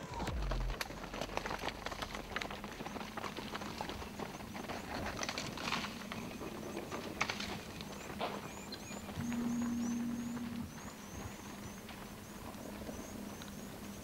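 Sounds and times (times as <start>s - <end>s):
hooves running on sandy ground: 0.0s - 14.0s.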